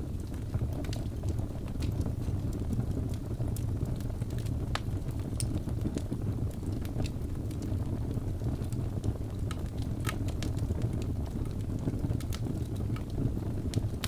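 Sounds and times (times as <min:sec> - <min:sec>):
fire rumbling: 0:00.0 - 0:14.0
logs crackling and popping: 0:00.0 - 0:14.0.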